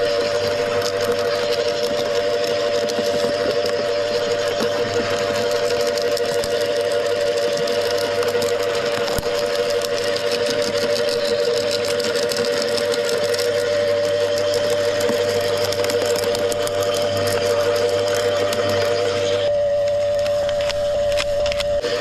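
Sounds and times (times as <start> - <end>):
wood chipper running: 0.0 - 22.0.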